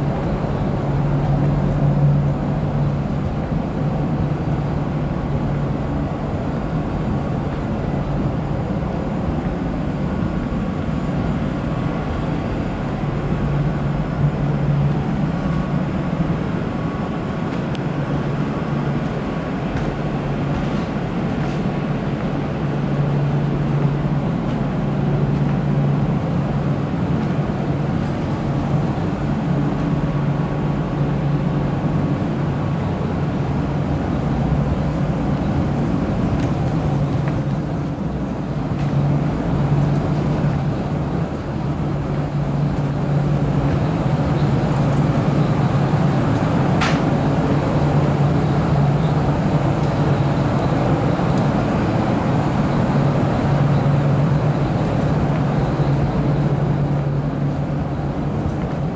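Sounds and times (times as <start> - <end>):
low machine hum: 0.0 - 58.9
ventilation air rushing: 0.0 - 58.9.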